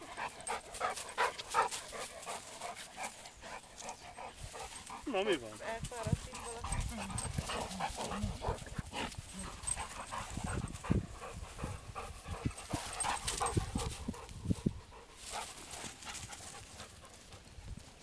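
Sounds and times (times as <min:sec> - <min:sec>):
dog panting: 0:00.0 - 0:17.5.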